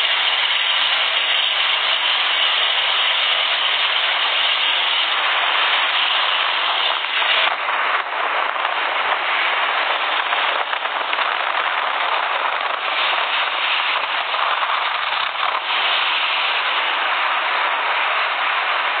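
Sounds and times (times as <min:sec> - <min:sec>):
rush of boat wake water: 0:00.0 - 0:19.0
wind buffeting microphone: 0:00.0 - 0:19.0.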